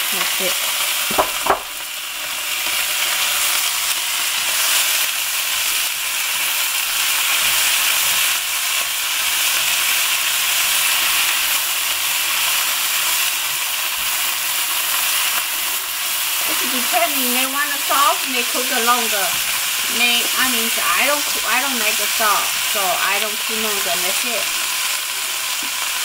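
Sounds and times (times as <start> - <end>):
greens sizzling in a wok: 0.0 - 26.0.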